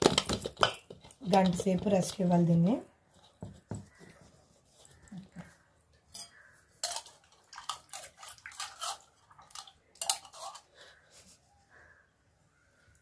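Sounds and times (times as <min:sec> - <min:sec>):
dough clicking and crackling: 0:00.0 - 0:11.0.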